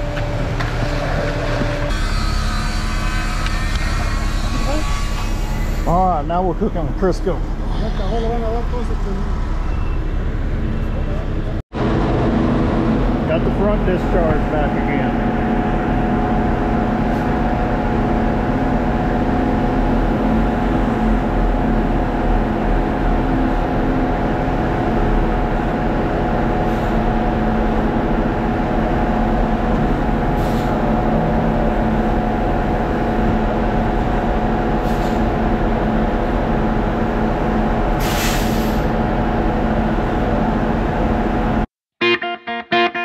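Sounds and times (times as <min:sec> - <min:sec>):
diesel machinery running: 0:00.0 - 0:41.7.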